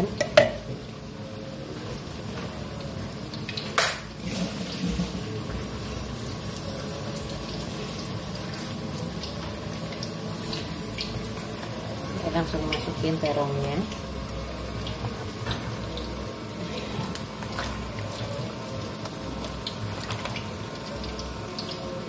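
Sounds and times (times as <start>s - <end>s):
broth bubbling in a pan: 0.0s - 22.0s.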